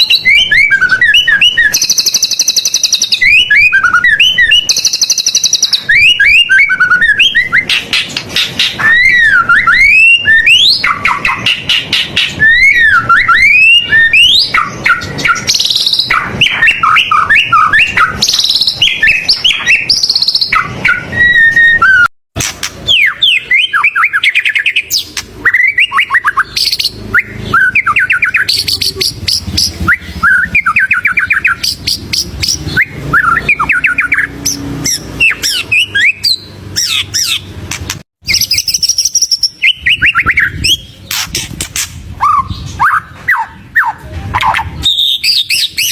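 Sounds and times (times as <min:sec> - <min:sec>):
bird singing whistles and trills: 0:00.0 - 0:22.1, 0:22.8 - 0:37.5, 0:38.2 - 0:45.9.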